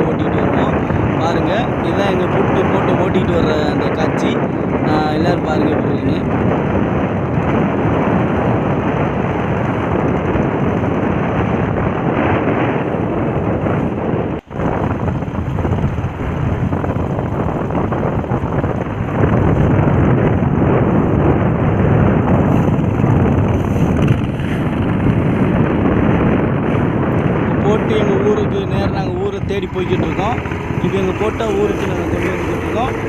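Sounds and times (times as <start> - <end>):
boat engine running: 0.0 - 33.0
wind buffeting microphone: 0.0 - 33.0.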